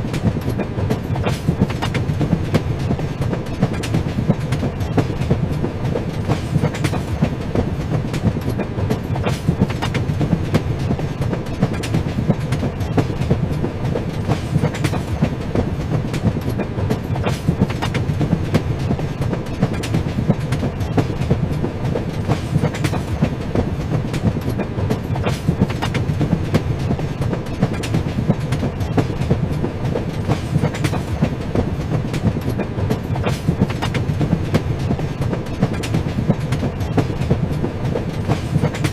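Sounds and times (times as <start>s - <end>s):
train rumbling on track: 0.0s - 38.9s
train wheels clacking over rails: 0.0s - 38.9s.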